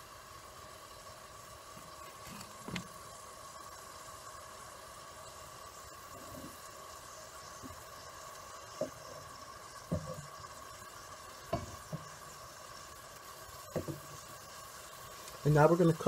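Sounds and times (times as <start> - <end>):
meatballs sizzling in hot oil: 0.0 - 16.0.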